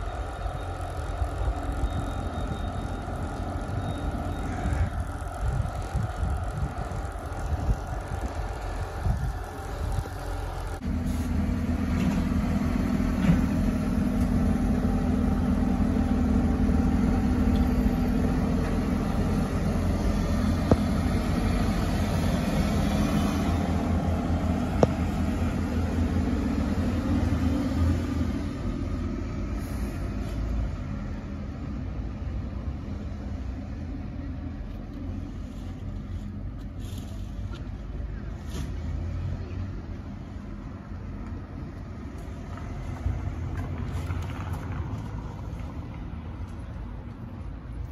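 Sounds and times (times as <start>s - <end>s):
lorry engine running: 0.0s - 47.9s.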